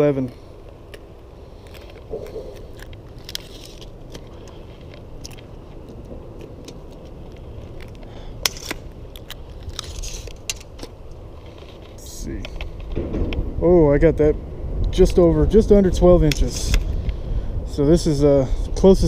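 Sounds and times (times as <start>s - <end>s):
handling clicks and rustles: 0.0s - 13.4s, 14.8s - 17.2s
low steady rumble: 0.0s - 19.0s.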